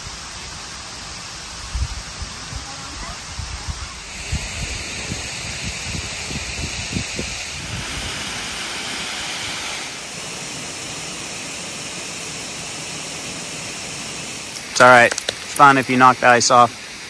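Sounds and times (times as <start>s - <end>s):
rushing water of creek and waterfall: 0.0s - 17.0s.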